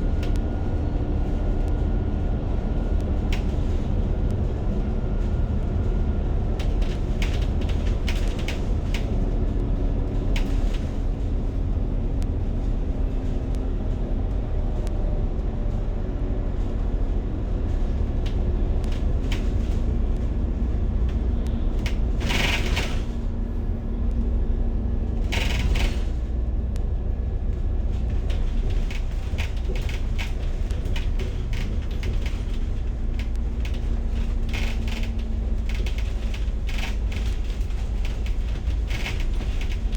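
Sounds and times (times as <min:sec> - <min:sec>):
bus engine and road rumble: 0:00.0 - 0:39.9
light rattles and clicks: 0:00.0 - 0:39.9.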